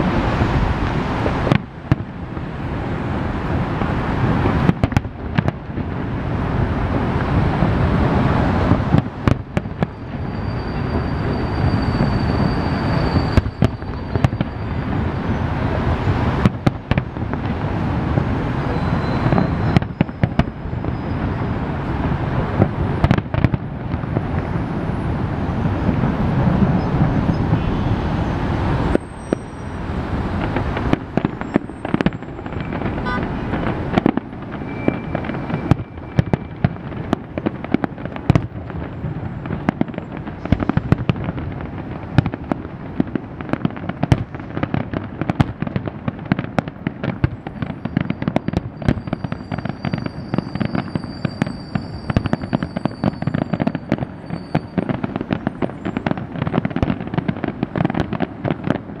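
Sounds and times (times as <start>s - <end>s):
fireworks bursts and bangs: 0.0s - 59.0s.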